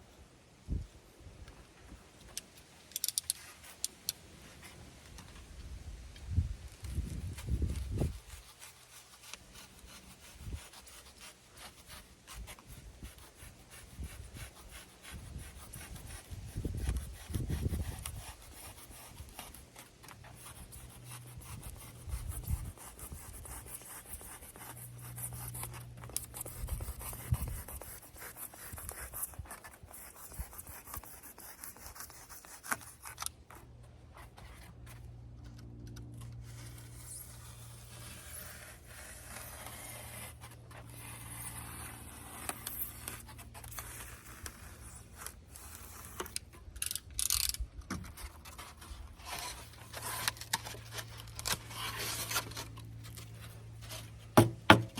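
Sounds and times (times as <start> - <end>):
rubbing and scraping: 6.6 - 54.9.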